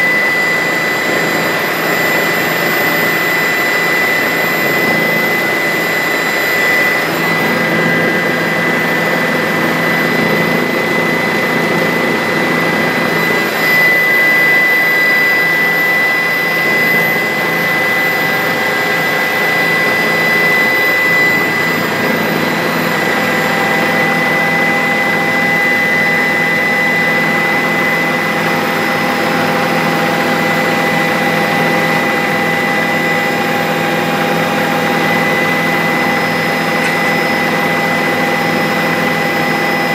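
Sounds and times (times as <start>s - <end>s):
helicopter flying: 0.0s - 39.9s.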